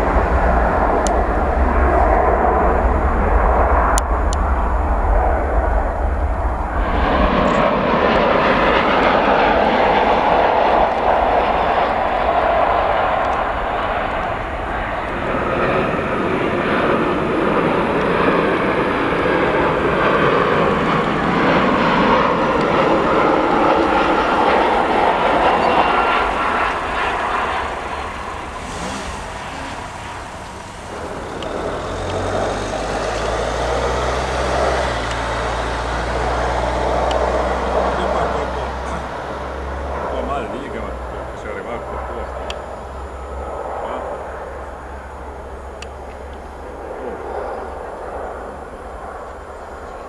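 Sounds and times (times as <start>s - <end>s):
jet engines roaring: 0.0s - 50.0s
low hum: 0.0s - 50.0s.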